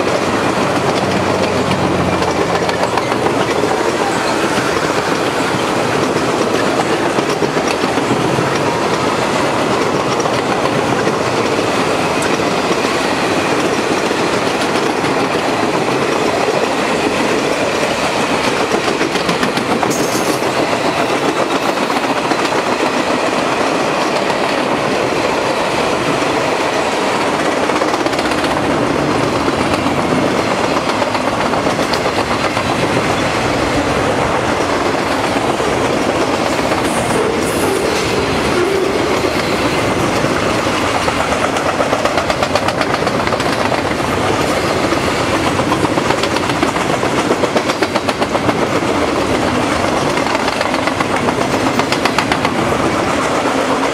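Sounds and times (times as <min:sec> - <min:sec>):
train wheels clicking over rail joints: 0:00.0 - 0:53.9.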